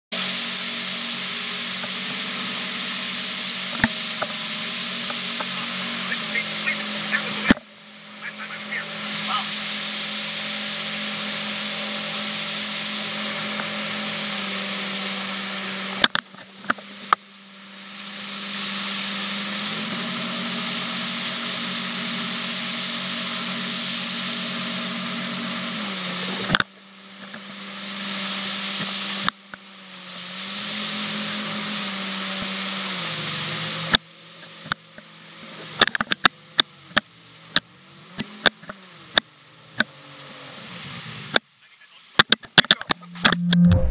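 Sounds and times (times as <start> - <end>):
boat engine running hard: 0.2 - 41.4
hiss of water and wind: 0.2 - 42.2.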